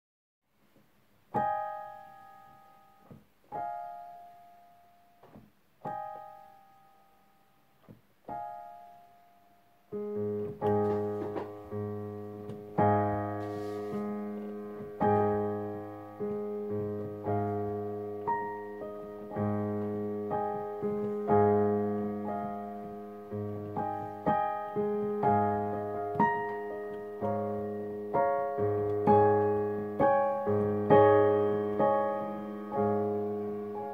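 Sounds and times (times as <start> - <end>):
slow gentle piano piece: 0.6 - 33.9.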